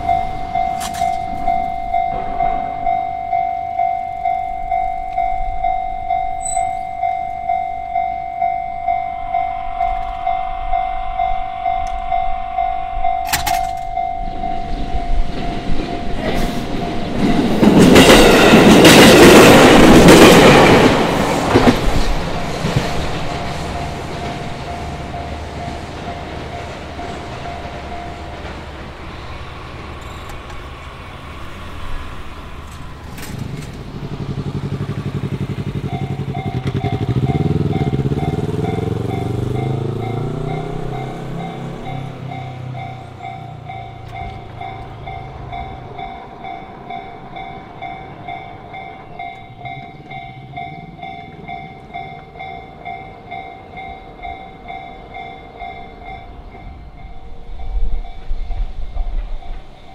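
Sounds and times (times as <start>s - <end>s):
level-crossing alarm bell: 0.0s - 28.8s, 35.7s - 59.9s
train passing: 0.0s - 59.9s.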